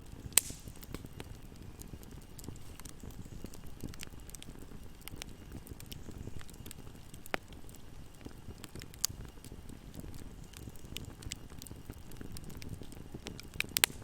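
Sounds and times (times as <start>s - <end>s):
fire crackling in fireplace: 0.0s - 14.0s
sharp fire pops: 0.0s - 14.0s.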